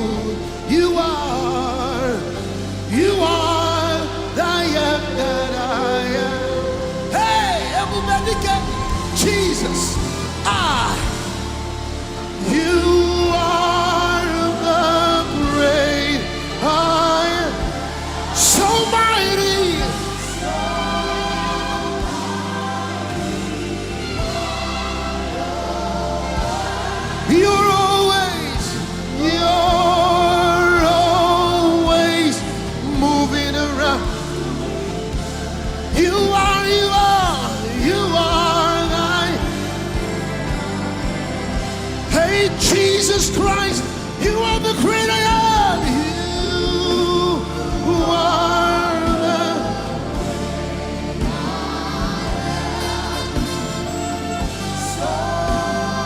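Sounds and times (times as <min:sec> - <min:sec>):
gospel singing: 0:00.0 - 0:56.0
sustained keyboard chords: 0:00.0 - 0:56.0
band with steady beat: 0:06.6 - 0:56.0.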